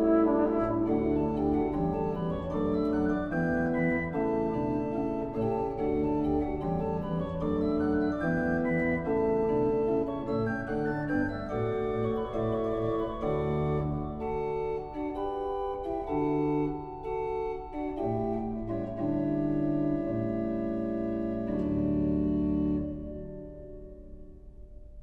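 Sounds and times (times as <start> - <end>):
pipe organ slow chords: 0.0 - 23.6.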